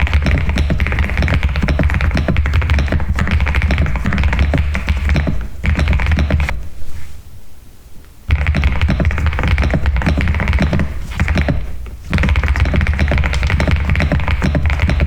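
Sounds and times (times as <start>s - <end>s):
mechanical keyboard typing: 0.0s - 6.5s, 8.3s - 15.0s.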